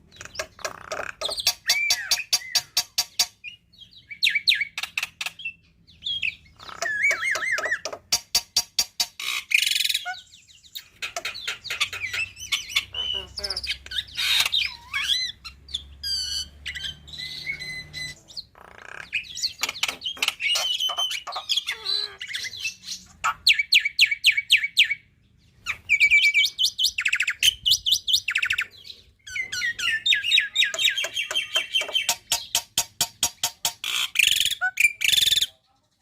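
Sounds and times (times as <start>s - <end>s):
bird singing varied song: 0.0s - 36.0s.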